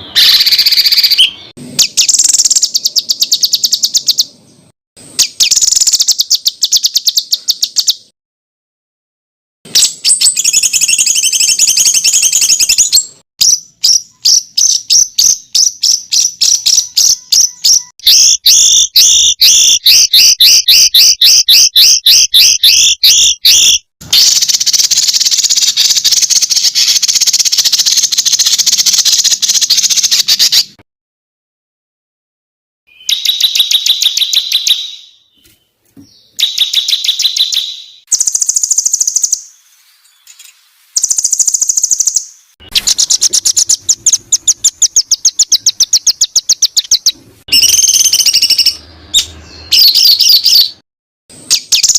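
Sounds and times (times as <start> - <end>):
songbird high-pitched trills: 0.0 - 4.3, 5.2 - 8.1, 9.8 - 30.7, 32.9 - 50.8, 51.5 - 51.9.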